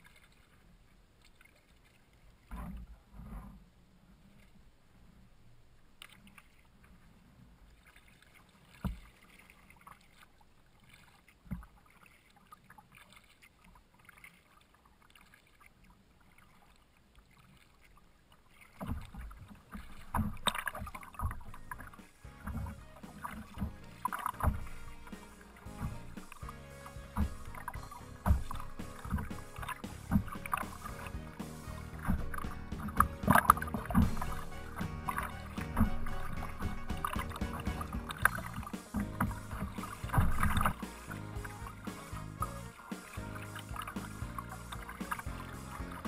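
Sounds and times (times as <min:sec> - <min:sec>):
water splashing and slapping: 0:00.0 - 0:03.5, 0:06.0 - 0:46.0
water lapping at hull: 0:00.0 - 0:46.0.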